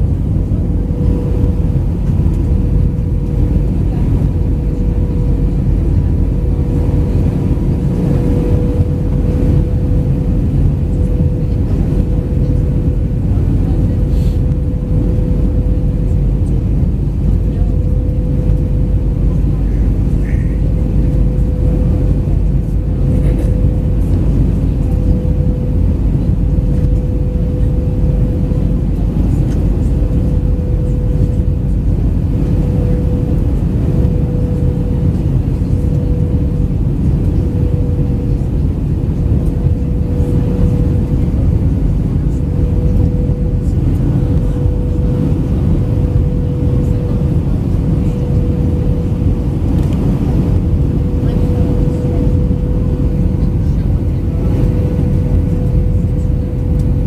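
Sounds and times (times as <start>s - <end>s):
airplane cabin rumble: 0.0s - 57.0s
constant hum: 0.0s - 57.0s.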